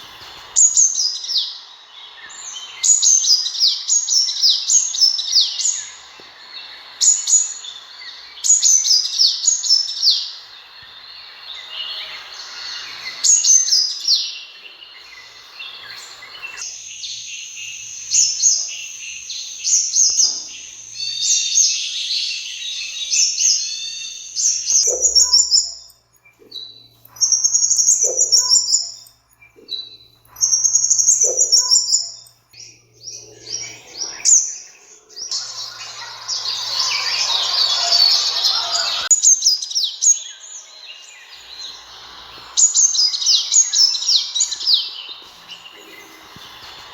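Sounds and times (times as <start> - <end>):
background hiss: 0.0 - 46.9
birds chirping and twittering: 0.0 - 46.9.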